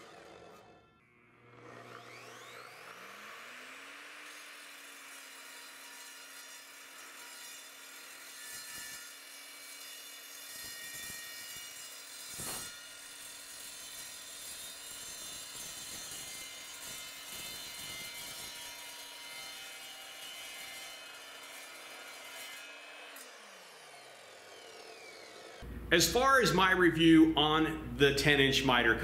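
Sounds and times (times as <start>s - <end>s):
miter saw cutting steel tube: 0.0s - 26.4s.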